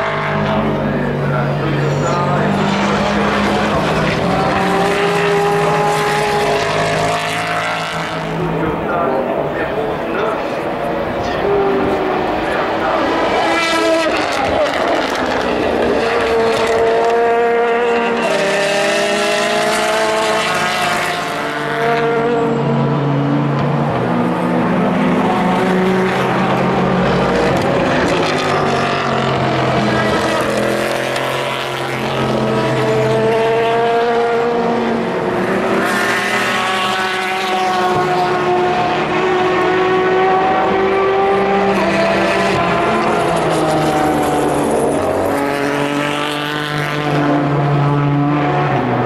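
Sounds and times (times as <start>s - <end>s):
race cars passing at high revs: 0.0s - 49.0s.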